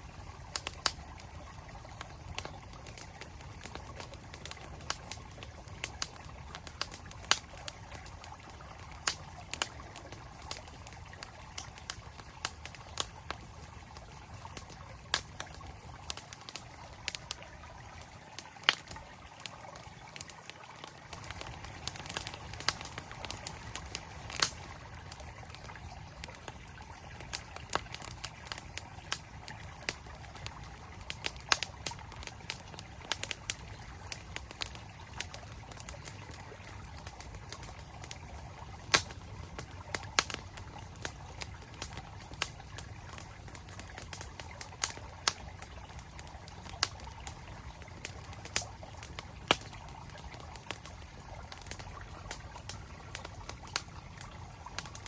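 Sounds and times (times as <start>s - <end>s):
campfire crackling and popping: 0.0s - 55.0s
stream flowing: 0.0s - 55.0s.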